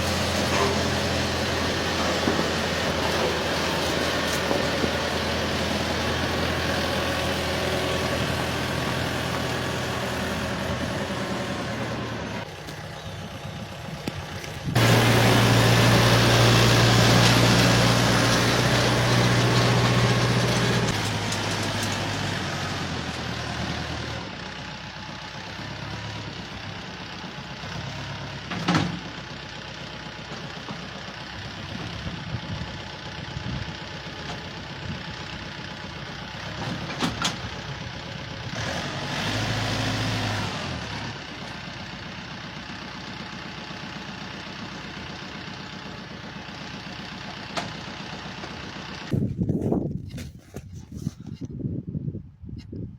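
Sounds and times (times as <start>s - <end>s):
engine running: 0.0s - 51.3s.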